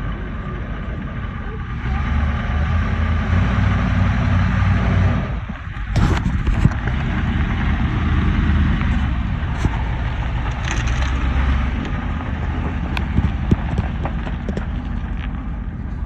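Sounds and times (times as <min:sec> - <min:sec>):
engine idling: 0:00.0 - 0:03.4, 0:05.3 - 0:16.0.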